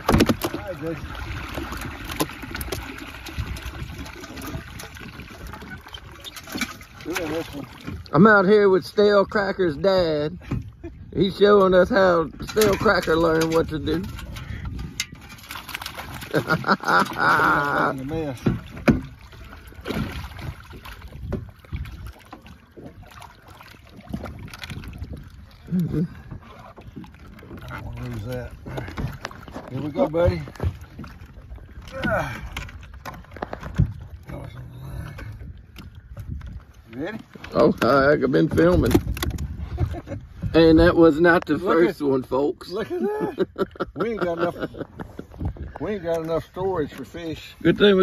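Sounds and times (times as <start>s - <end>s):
wind rumble on microphone: 0.0s - 8.1s, 9.2s - 16.7s, 18.1s - 41.5s, 44.6s - 48.0s
knocks and rattles of line hauling: 0.0s - 8.3s, 10.4s - 41.7s
water splashing and trickling: 0.0s - 48.0s.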